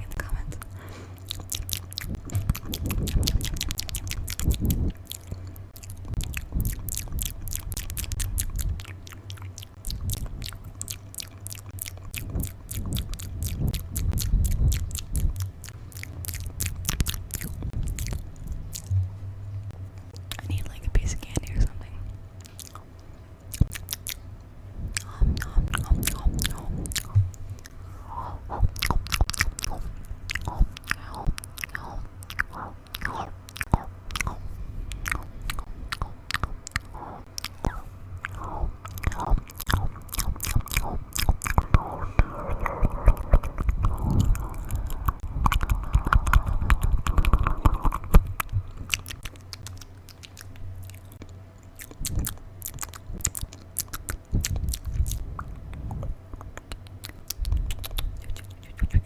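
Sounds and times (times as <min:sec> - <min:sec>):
wet mouth clicks and smacks: 0:00.0 - 0:19.0, 0:20.0 - 0:21.8, 0:22.4 - 0:24.2, 0:24.9 - 0:59.0.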